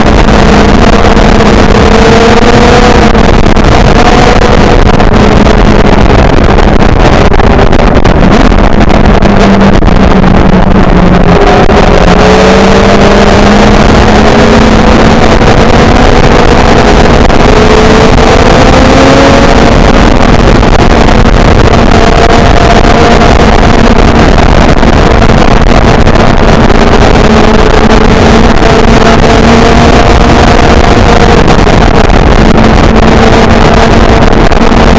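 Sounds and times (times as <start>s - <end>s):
motorcycle engine cruising: 0.0s - 34.9s
wind buffeting microphone: 0.0s - 34.9s.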